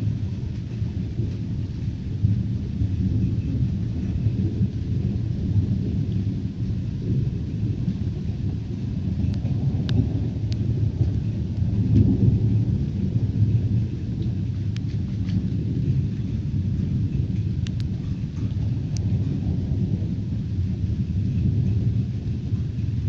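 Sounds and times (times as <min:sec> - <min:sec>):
raindrop ticks: 0:00.0 - 0:23.0
thunder rumbling: 0:00.0 - 0:23.0.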